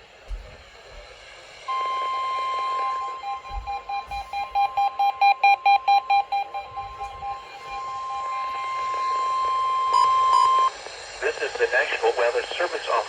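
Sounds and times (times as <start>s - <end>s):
steady high warning tone: 0.3s - 13.0s
weather radio alert beeps: 1.7s - 12.6s.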